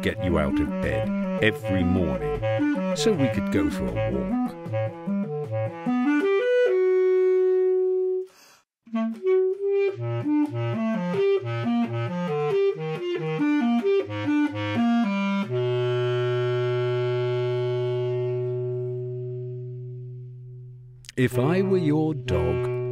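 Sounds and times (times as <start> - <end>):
basset horn playing: 0.0 - 8.3, 8.9 - 20.7.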